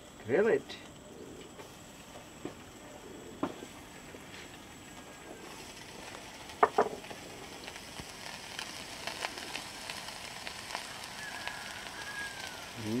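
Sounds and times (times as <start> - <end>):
food sizzling on charcoal grill: 0.0 - 13.0.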